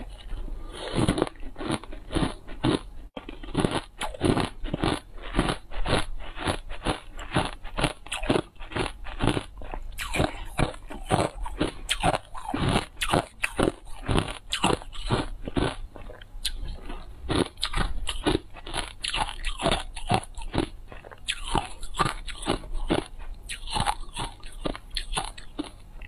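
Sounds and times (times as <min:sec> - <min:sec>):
ice being chewed with crunches: 0:00.0 - 0:26.0.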